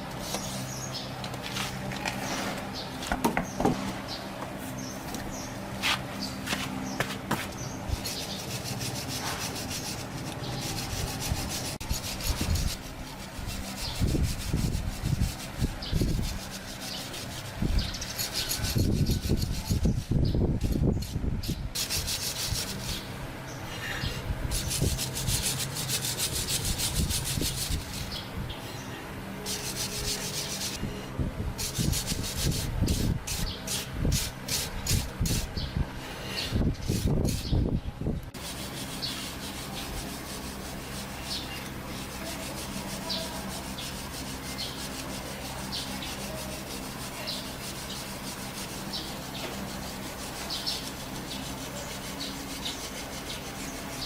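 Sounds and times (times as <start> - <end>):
rubbing on hard surface: 4.5 - 23.1, 23.7 - 31.0, 31.6 - 37.6, 38.4 - 54.0.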